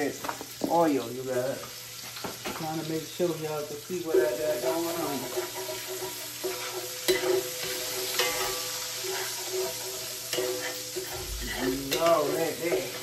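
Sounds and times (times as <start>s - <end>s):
oil sizzling in a skillet: 0.0s - 13.0s
utensil stirring in pan: 1.6s - 13.0s.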